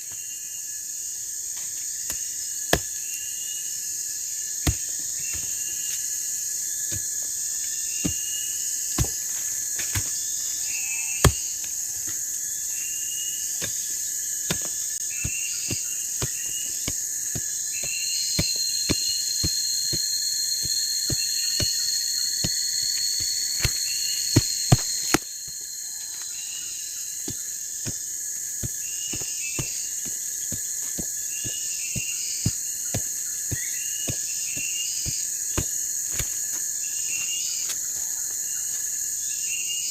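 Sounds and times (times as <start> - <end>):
insects buzzing drone: 0.0 - 39.9
insects chirping: 0.0 - 39.9.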